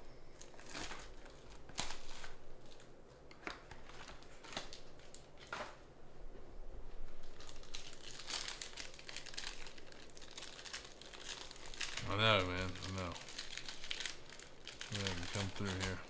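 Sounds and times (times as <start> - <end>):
foil wrapper crinkling and tearing: 0.4 - 5.6, 7.2 - 16.0.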